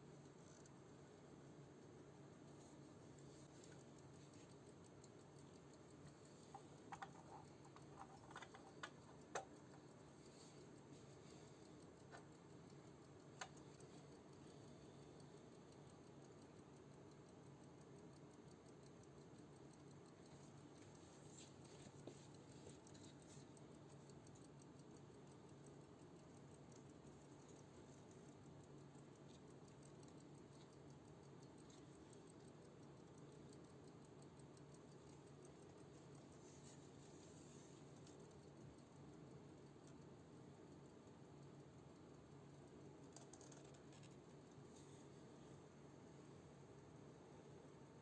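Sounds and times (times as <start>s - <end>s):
mechanical clock ticking: 0.1s - 45.2s.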